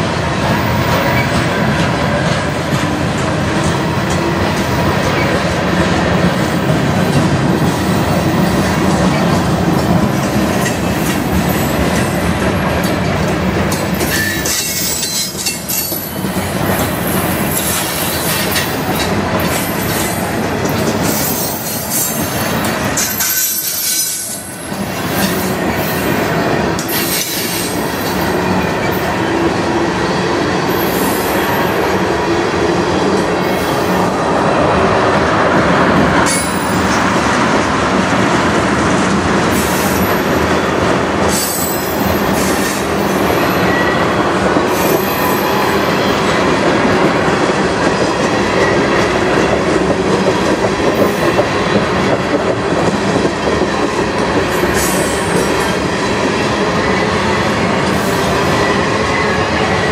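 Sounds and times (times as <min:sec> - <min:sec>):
train wheels rumbling and clattering: 0:00.0 - 0:59.9.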